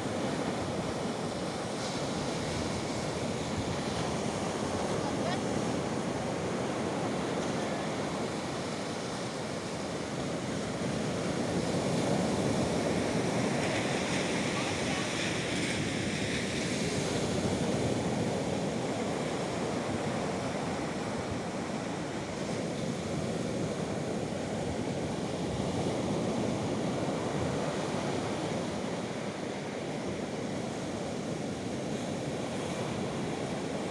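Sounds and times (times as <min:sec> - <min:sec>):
waves breaking: 0:00.0 - 0:33.9.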